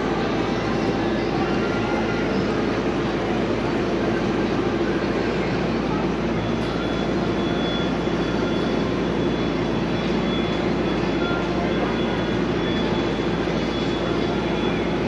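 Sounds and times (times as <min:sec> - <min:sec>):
city street traffic roar: 0:00.0 - 0:15.0.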